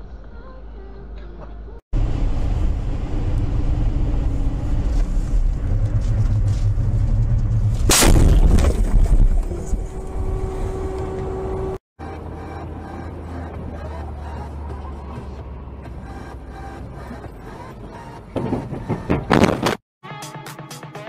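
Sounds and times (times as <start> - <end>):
car engine and tyre rumble: 2.0 - 18.9.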